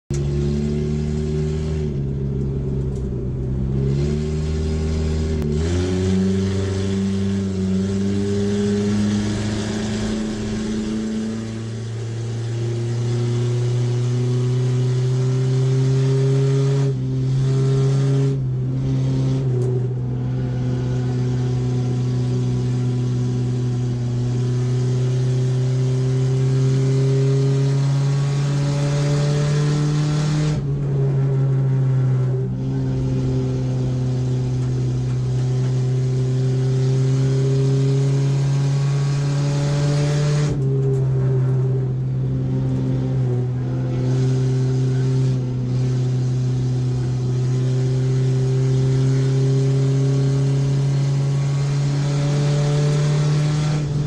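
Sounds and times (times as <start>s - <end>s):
race car engine running hard: 0.1s - 54.0s.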